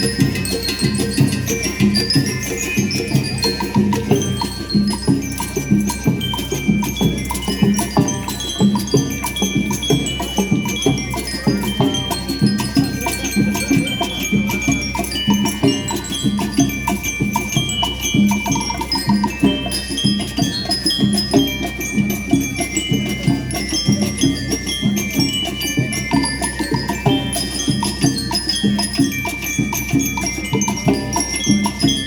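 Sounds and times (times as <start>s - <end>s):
bell lyres ringing melody: 0.0s - 32.0s
steady drum beat: 0.0s - 32.0s.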